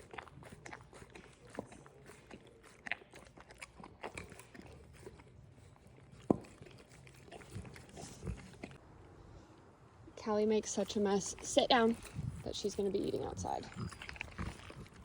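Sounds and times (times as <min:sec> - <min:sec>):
dog chewing and biting food: 0:00.0 - 0:08.8, 0:10.7 - 0:15.0.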